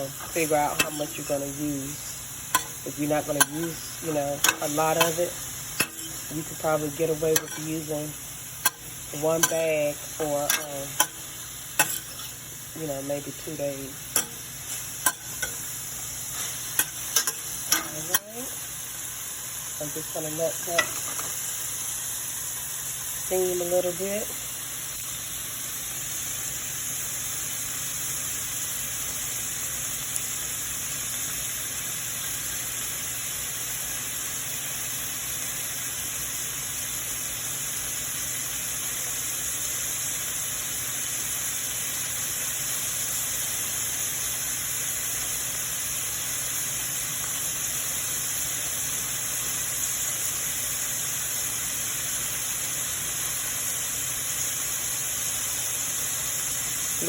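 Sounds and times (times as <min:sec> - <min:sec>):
broccoli sizzling in a pan: 0:00.0 - 0:57.0.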